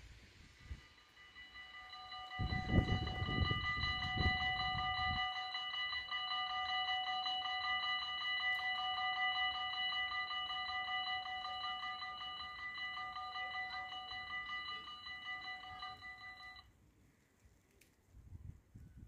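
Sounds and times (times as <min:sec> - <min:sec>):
passing train rumble: 0:00.0 - 0:16.6
level crossing warning bells: 0:00.0 - 0:16.7.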